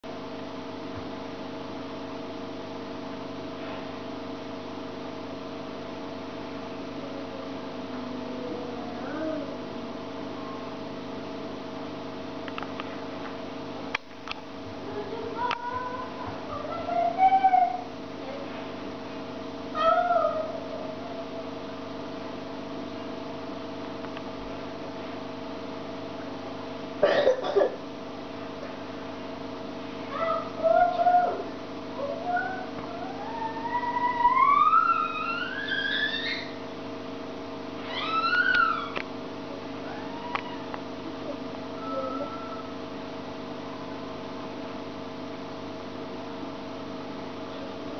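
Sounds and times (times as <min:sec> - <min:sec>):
aquarium pumps humming: 0:00.0 - 0:47.9.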